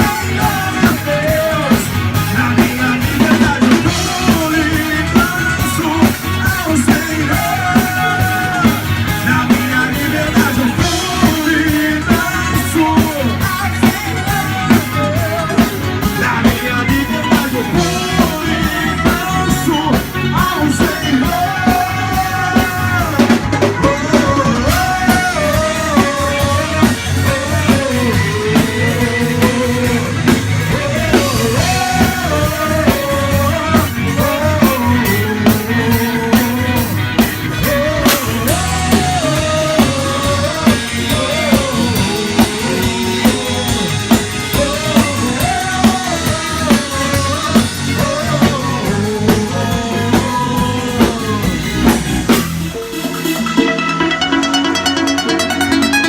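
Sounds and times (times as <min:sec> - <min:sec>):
drum kit beat: 0:00.0 - 0:56.0
rock band playing: 0:00.0 - 0:56.0
sliding lead melody: 0:00.0 - 0:56.0.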